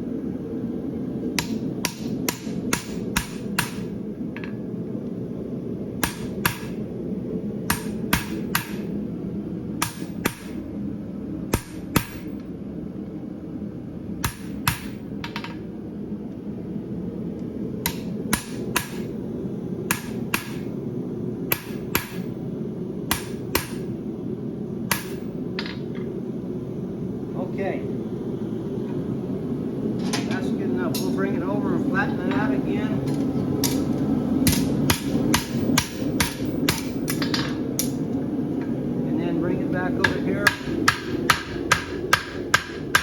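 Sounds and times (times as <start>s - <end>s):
gas forge burner noise: 0.0s - 43.0s.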